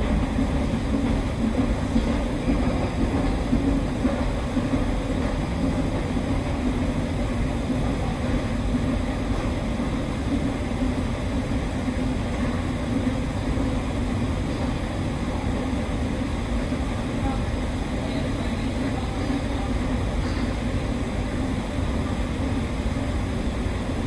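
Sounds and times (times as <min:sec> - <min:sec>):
metro train rumbling: 0:00.0 - 0:24.0.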